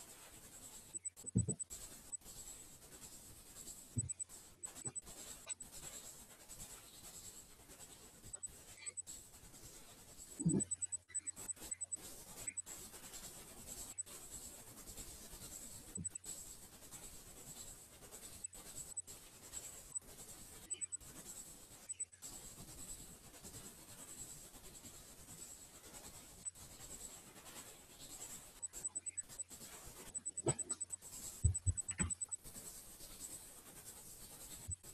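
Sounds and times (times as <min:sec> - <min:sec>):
scratchy microphone hiss: 0:00.0 - 0:34.9.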